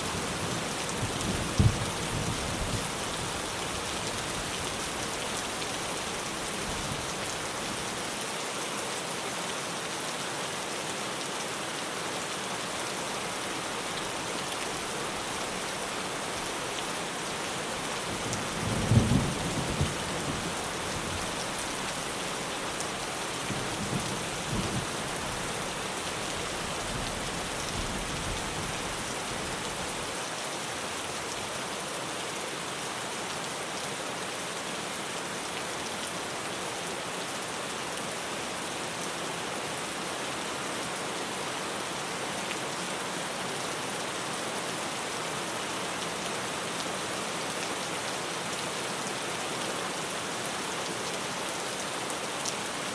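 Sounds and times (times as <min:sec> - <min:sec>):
heavy rain on a tin roof: 0:00.0 - 0:52.9.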